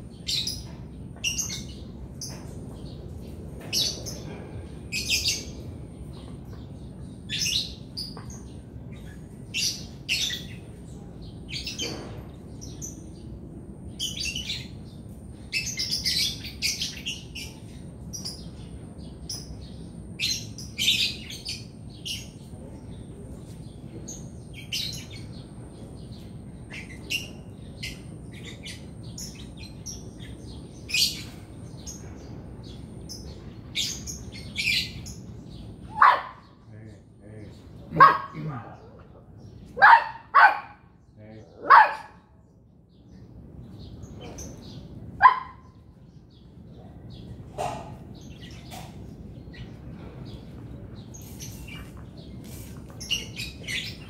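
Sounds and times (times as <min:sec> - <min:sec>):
low background hum: 0:00.0 - 0:54.0
small birds chirping: 0:00.0 - 0:54.0.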